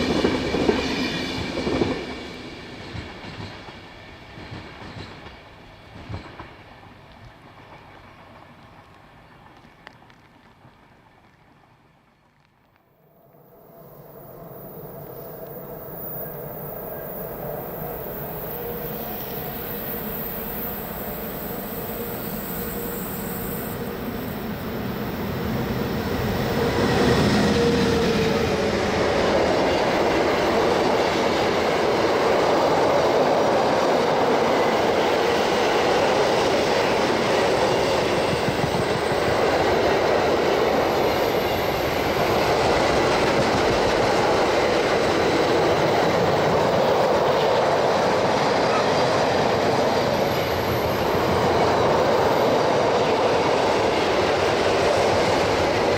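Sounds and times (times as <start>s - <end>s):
train wheels rumbling on rails: 0.0s - 12.6s, 13.3s - 55.9s.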